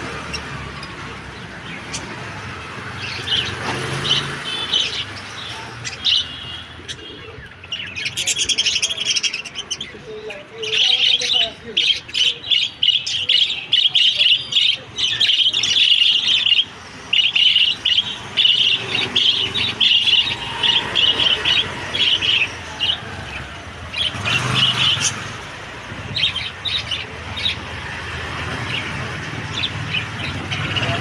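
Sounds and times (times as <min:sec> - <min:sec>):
parrots chirping: 0:00.0 - 0:31.0.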